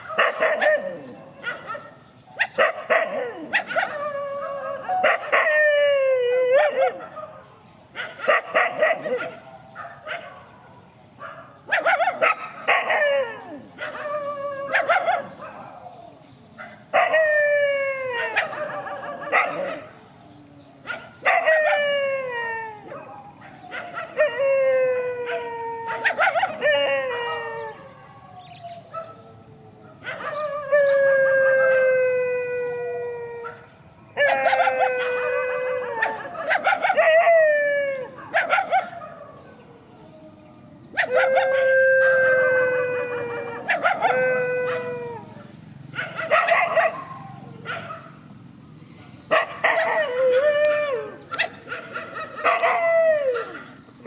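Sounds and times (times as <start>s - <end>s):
dogs barking and yipping: 0.0s - 20.1s, 20.8s - 32.1s, 33.3s - 39.8s, 40.9s - 48.7s, 49.3s - 54.0s
dogs howling: 0.0s - 48.2s, 49.3s - 53.9s.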